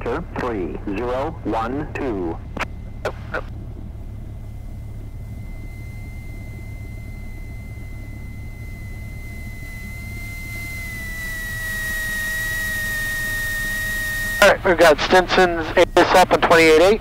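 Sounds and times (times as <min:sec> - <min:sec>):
aircraft engine droning: 0:00.0 - 0:17.0
thin steady whine: 0:00.0 - 0:17.0.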